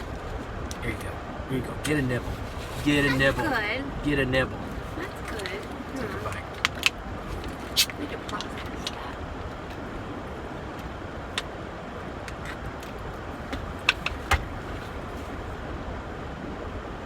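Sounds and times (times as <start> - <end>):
vehicle rumble and hiss: 0.0 - 17.0.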